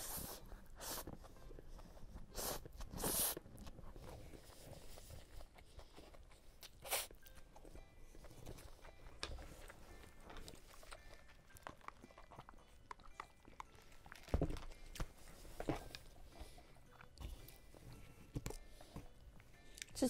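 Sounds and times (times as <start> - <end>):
chewing and mouth clicks: 1.0 - 17.7, 18.3 - 20.0.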